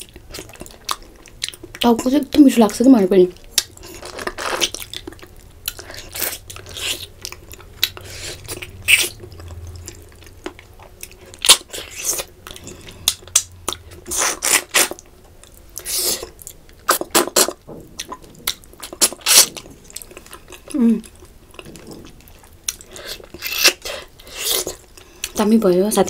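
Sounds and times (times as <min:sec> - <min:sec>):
person chewing crunchy food: 0:00.0 - 0:02.1, 0:03.3 - 0:25.4.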